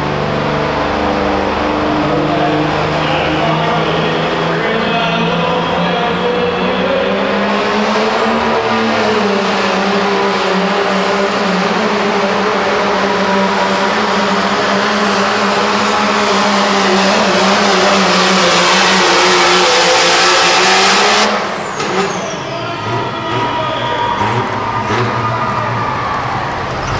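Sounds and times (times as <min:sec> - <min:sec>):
diesel engine at full throttle: 0:00.0 - 0:26.9.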